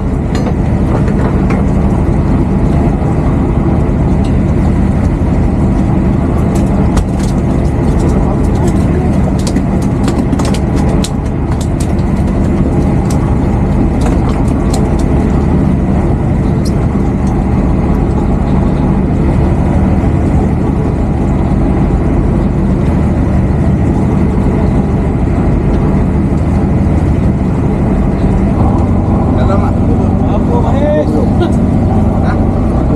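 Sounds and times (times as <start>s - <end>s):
boat engine drone: 0.0s - 32.9s.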